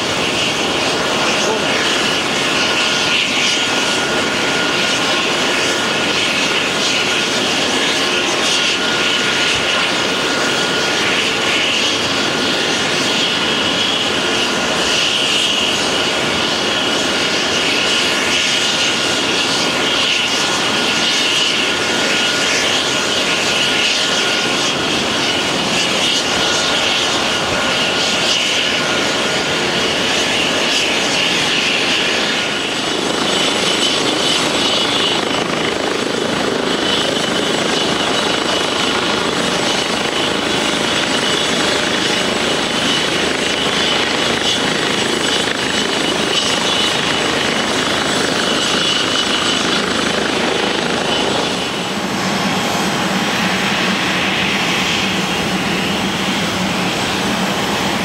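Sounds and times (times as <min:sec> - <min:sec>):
aircraft turbine engines idling: 0:00.0 - 0:58.0.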